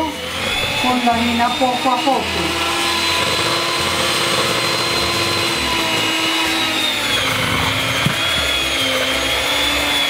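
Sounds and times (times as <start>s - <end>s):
electric hand mixer whining: 0.0s - 10.0s.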